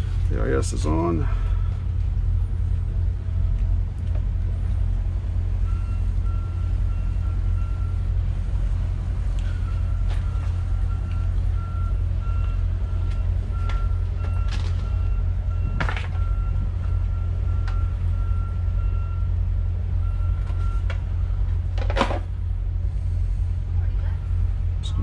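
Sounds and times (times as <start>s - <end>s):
boat engines idling: 0.0s - 25.0s.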